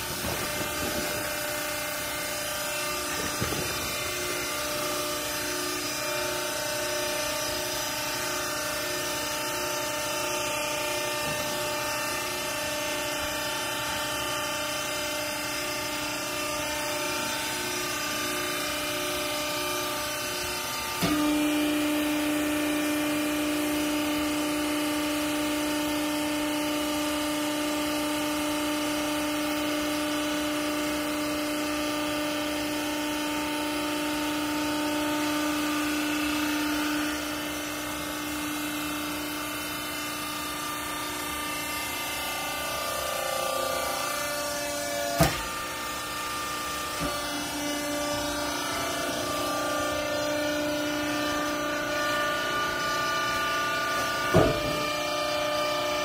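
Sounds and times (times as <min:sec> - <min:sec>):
hydraulic machine humming: 0:00.0 - 0:56.0
pump drone under load: 0:00.0 - 0:56.0.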